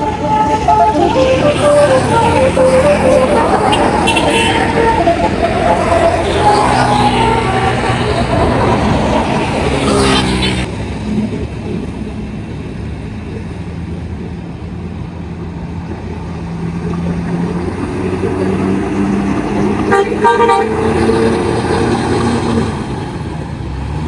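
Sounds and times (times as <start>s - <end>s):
bus engine revving: 0.0s - 24.0s
low engine drone: 0.0s - 24.0s.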